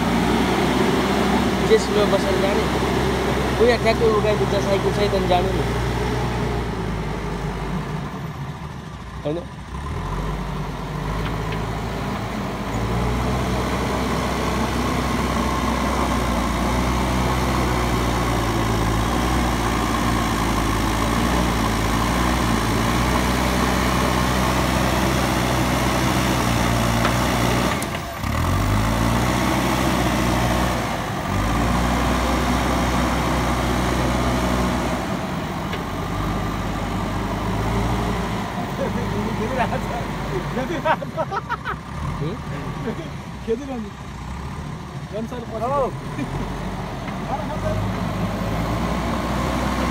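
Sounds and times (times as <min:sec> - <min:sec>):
diesel engine under load: 0:00.0 - 0:49.9.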